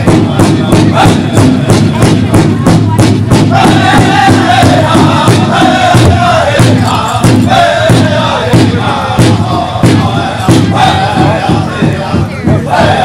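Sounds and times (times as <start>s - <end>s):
group chanting in high voices: 0.0s - 13.0s
large drum steady beat: 0.0s - 13.0s.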